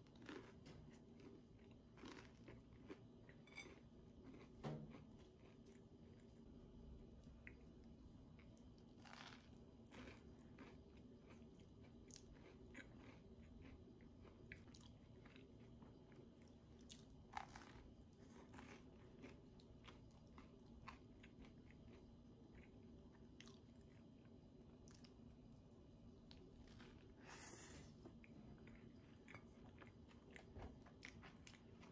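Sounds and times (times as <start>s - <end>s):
chewing with soft crunches: 0.0s - 31.9s
low steady hum: 0.0s - 31.9s.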